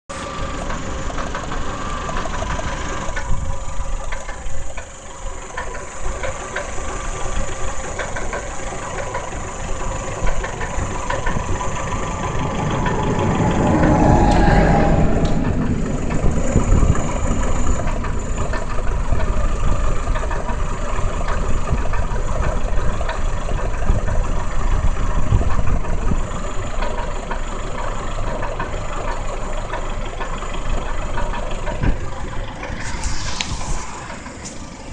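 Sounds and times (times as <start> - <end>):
car engine idling unevenly: 0.1 - 34.9.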